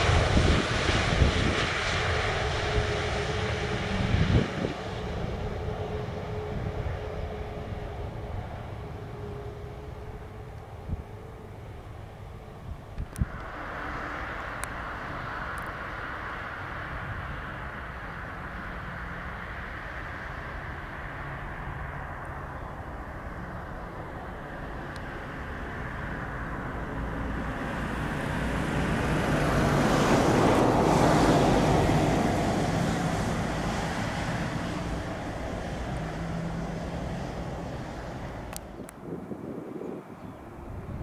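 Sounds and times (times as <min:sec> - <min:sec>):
low engine rumble: 0:00.0 - 0:41.0
vehicle passing by: 0:00.0 - 0:41.0.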